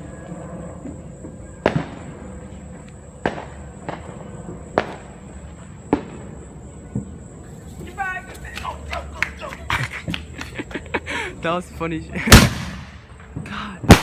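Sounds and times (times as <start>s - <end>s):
fireworks exploding: 0.0s - 10.6s, 11.4s - 14.0s.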